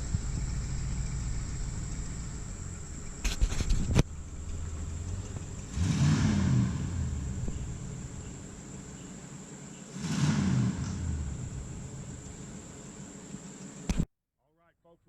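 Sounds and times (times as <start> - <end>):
pickup truck engine revving: 0.0 - 13.8.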